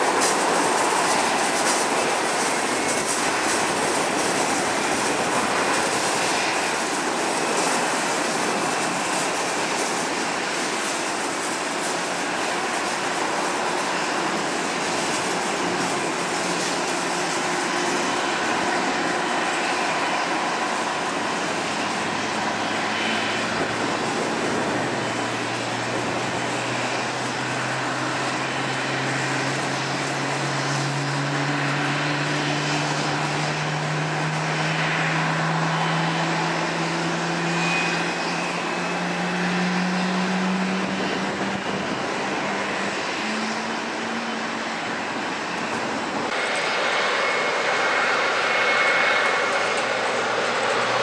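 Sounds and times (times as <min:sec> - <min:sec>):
jet engine whine: 0:00.0 - 0:51.0.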